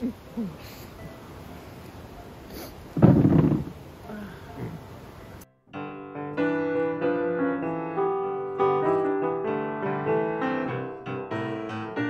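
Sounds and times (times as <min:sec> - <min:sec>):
piano music: 0:00.7 - 0:03.0, 0:03.7 - 0:12.0.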